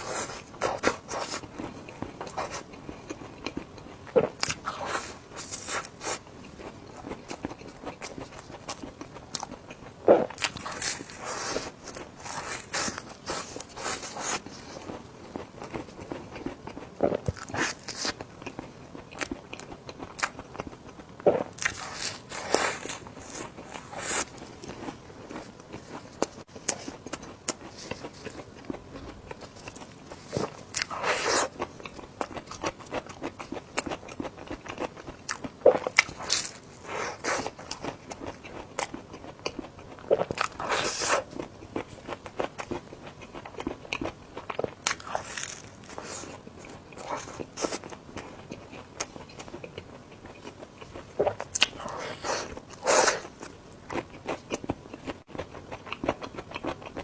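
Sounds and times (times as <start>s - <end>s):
person biting and chewing: 7.0s - 57.0s.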